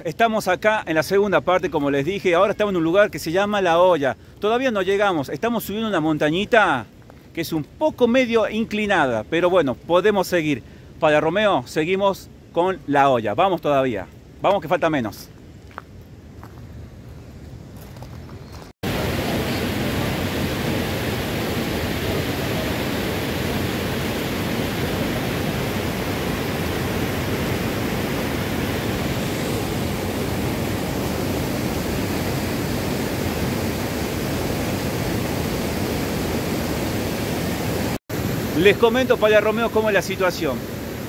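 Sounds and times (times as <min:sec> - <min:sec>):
waterfall and stream rushing: 0:00.0 - 0:06.8, 0:07.4 - 0:15.2, 0:18.8 - 0:41.0.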